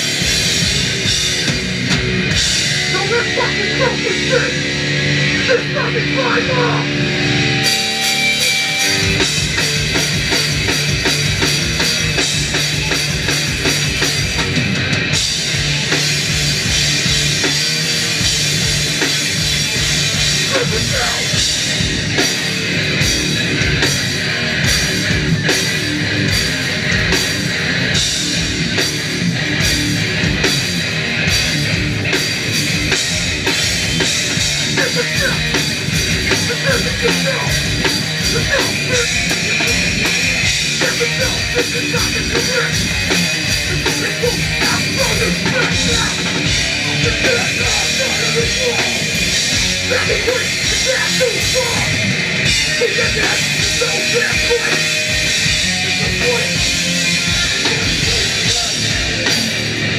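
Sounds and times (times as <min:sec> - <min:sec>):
drums pounding: 0:00.0 - 0:59.9
punk band playing live: 0:00.0 - 0:59.9.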